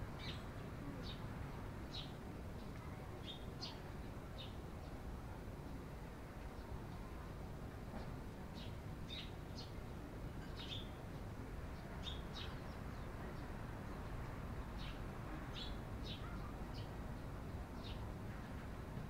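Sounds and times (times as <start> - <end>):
sparrows chirping: 0.2 - 5.1, 8.0 - 18.7.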